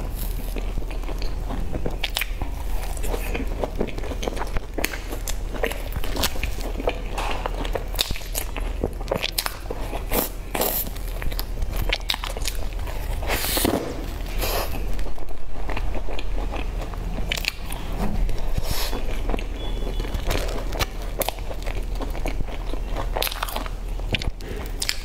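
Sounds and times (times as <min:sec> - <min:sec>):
crust crackling while chewing: 0:00.0 - 0:25.0.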